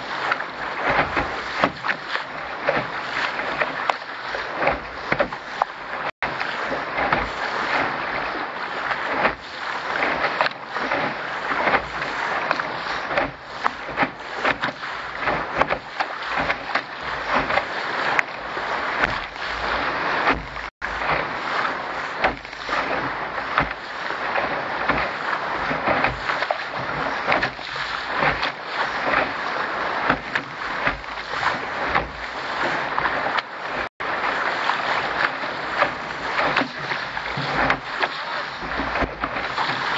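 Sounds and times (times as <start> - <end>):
water rushing along a boat hull: 0.0 - 39.9.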